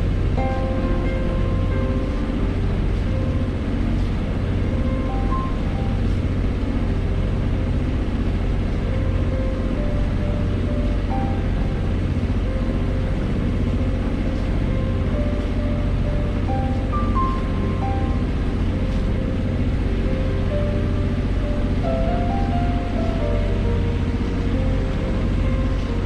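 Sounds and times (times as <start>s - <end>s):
boat engine drone: 0.0s - 26.0s
slow background music: 0.0s - 26.0s.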